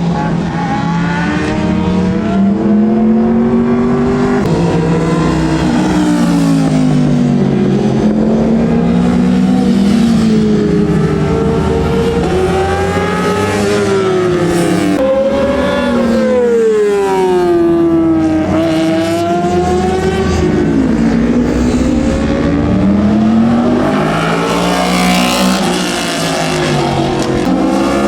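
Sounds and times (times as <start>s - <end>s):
motorcycle engines racing: 0.0s - 28.0s.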